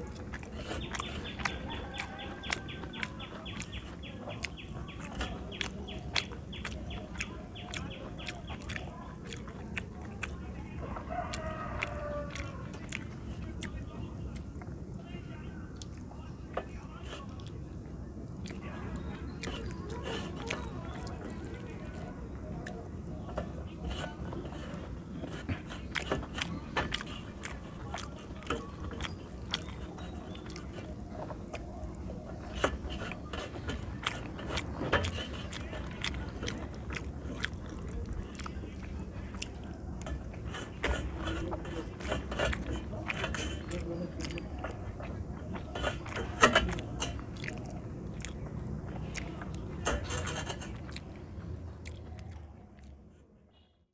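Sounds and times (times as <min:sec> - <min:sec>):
fingers squishing rice on plate: 0:00.0 - 0:53.0
wet chewing: 0:00.0 - 0:53.7.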